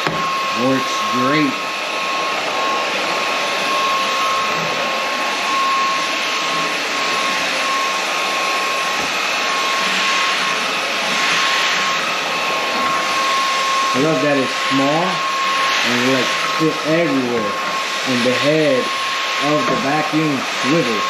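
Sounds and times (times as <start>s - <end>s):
stick vacuum running: 0.0s - 21.0s.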